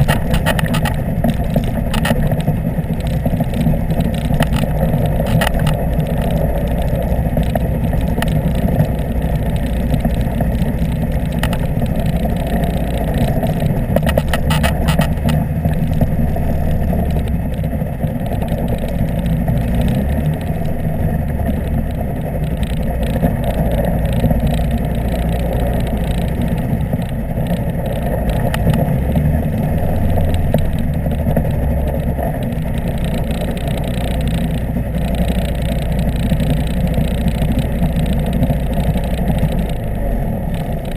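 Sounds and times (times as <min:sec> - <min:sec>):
microlight engine and propeller: 0:00.0 - 0:40.9.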